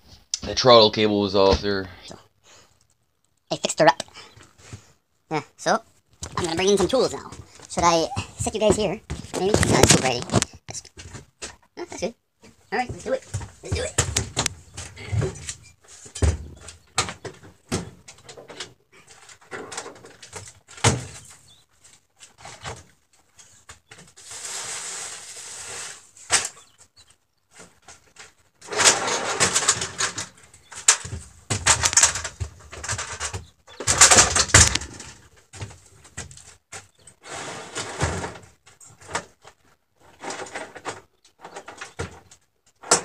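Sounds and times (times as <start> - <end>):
rustling and scraping: 4.3 - 5.0, 5.9 - 11.7, 12.4 - 43.0.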